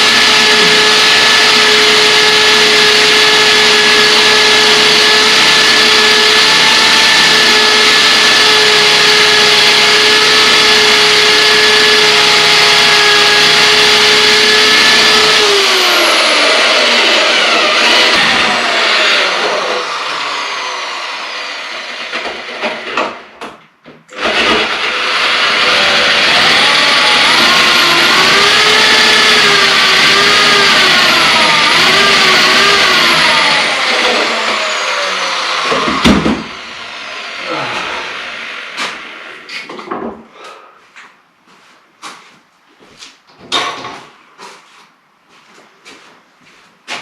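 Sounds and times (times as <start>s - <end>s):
electric drill boring into wood: 0.0s - 23.3s, 24.1s - 39.5s.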